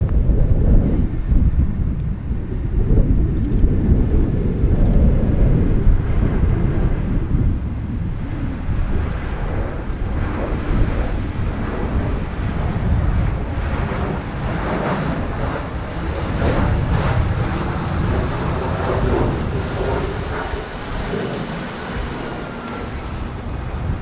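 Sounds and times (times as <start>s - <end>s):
airliner jet engines: 0.0s - 24.0s.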